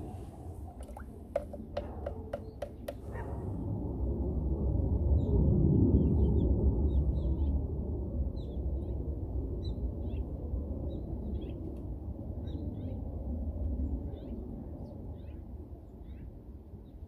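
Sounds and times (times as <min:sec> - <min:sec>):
steady low rumble: 0:00.0 - 0:15.1.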